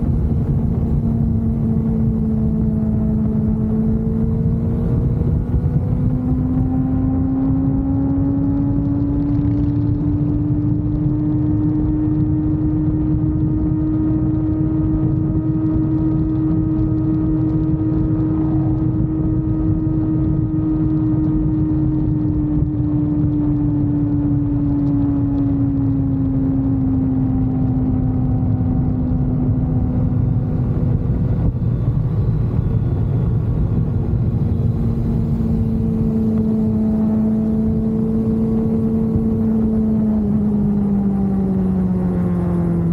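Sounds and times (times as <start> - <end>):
motorcycle engine: 0.0 - 42.9
wind and road noise: 0.0 - 42.9.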